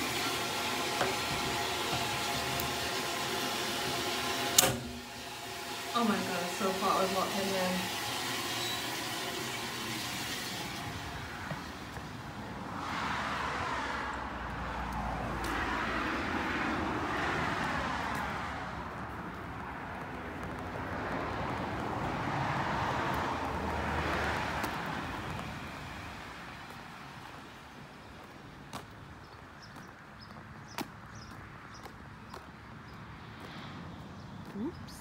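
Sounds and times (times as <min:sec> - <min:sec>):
vehicles passing on wet road: 0:00.0 - 0:35.0.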